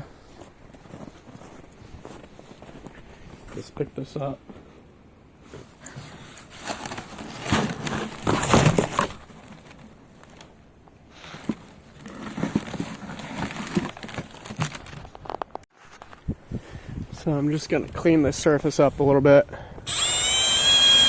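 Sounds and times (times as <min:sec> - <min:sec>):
rustling and scraping of handled objects: 0:00.0 - 0:19.2.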